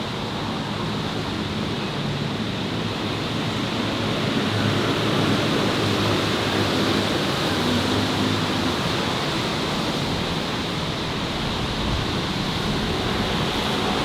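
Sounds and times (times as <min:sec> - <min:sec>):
city street ambience: 0:00.0 - 0:14.0.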